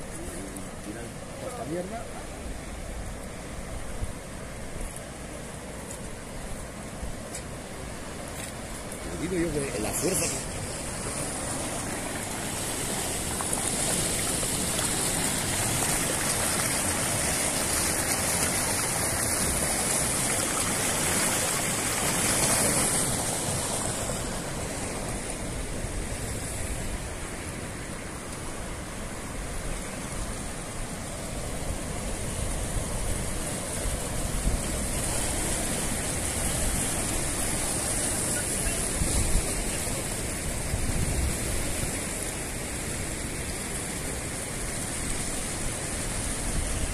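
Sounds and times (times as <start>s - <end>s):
rushing river water: 0.0s - 46.9s.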